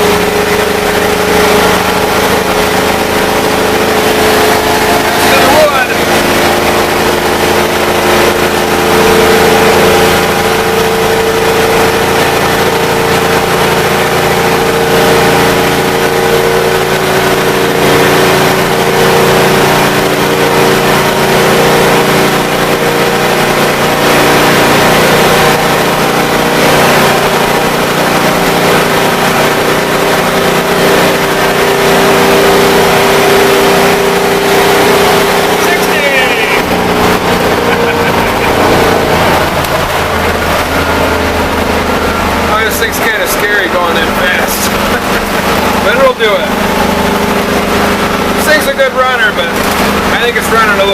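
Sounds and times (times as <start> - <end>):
bus engine running under load: 0.0 - 50.9.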